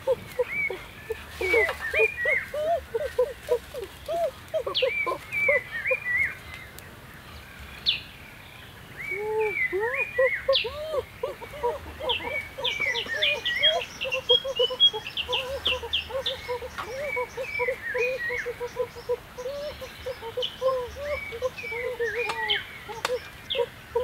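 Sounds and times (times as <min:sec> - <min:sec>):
quick chirping calls: 0:00.0 - 0:06.4, 0:09.1 - 0:24.0.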